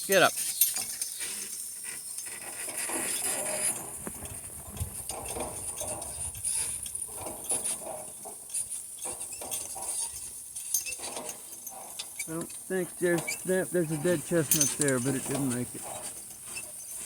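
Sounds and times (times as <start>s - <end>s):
harness metal clinking: 0.0s - 17.0s
insects buzzing: 0.0s - 17.0s
soft hoof steps: 0.5s - 17.0s.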